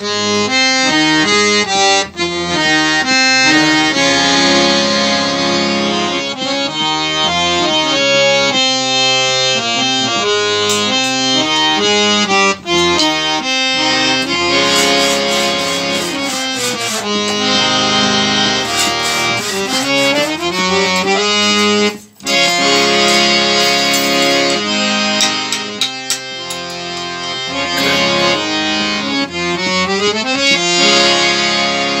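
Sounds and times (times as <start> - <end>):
harmonium melody: 0.0 - 32.0.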